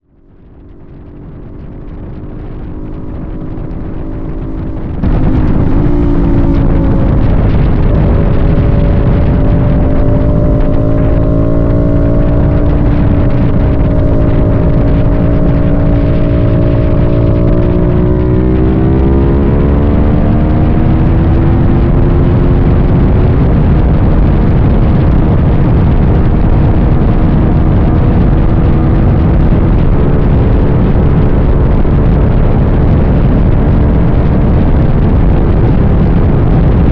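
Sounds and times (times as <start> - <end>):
wind noise: 0.0 - 36.9
vehicle engine accelerating: 0.1 - 36.9.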